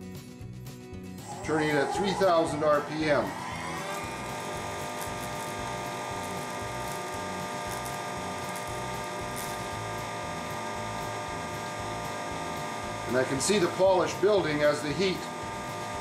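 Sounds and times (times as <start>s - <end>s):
wood lathe motor whine: 1.2s - 16.0s.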